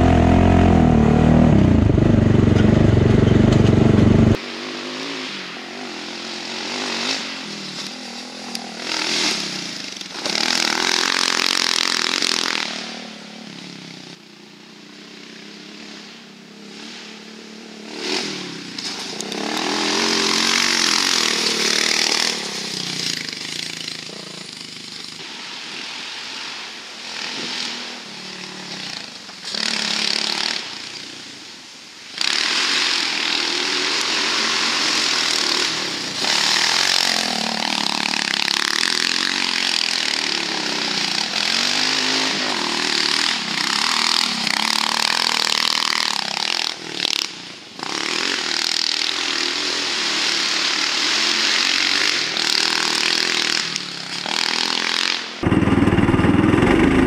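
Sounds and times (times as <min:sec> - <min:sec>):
buggy engine revving: 0:00.0 - 0:14.2, 0:15.2 - 0:25.4, 0:27.0 - 0:57.0.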